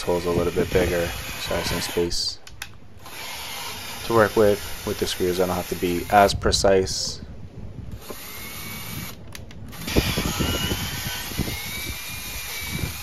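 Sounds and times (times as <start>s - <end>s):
cordless drill motor whine: 0.0s - 2.3s, 3.0s - 6.3s, 7.9s - 13.0s.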